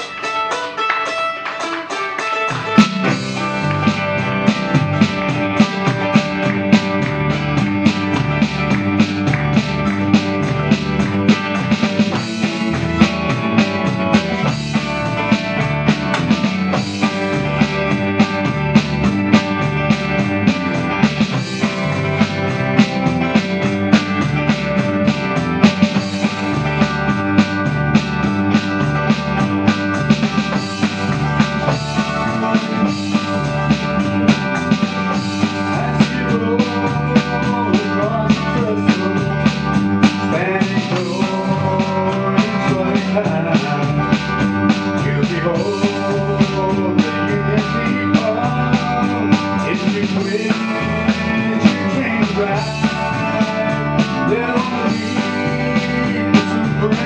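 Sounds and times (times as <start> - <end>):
drum kit beat: 0.0 - 57.0
electric guitar: 0.0 - 57.0
strummed acoustic guitar: 0.0 - 57.0.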